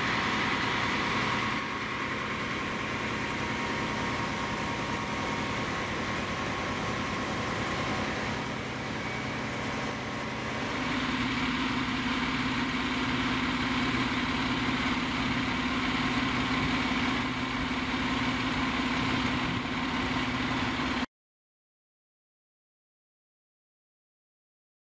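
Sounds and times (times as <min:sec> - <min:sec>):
strong steady hum: 0:00.0 - 0:21.0
fire engine idling: 0:00.0 - 0:21.1.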